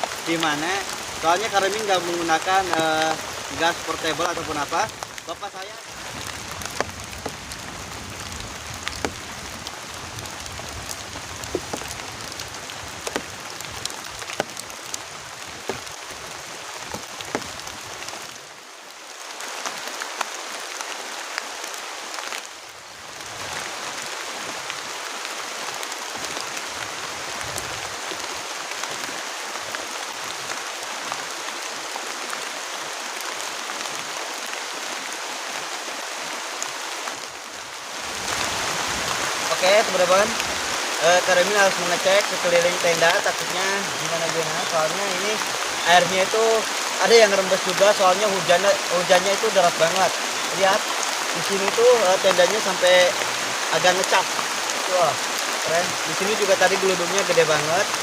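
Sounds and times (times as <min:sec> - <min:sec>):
heavy rain pouring: 0:00.0 - 0:58.0
raindrops tapping surfaces: 0:00.0 - 0:58.0.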